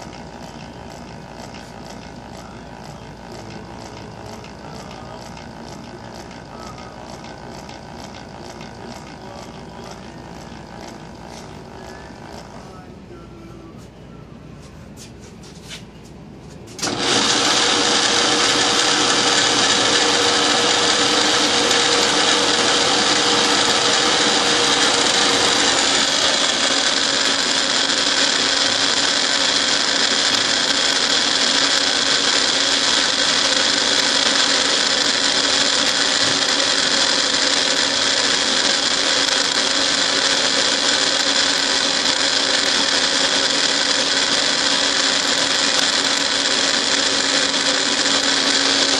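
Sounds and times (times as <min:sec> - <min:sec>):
milling machine whining: 0:00.0 - 0:14.5, 0:16.8 - 0:48.9.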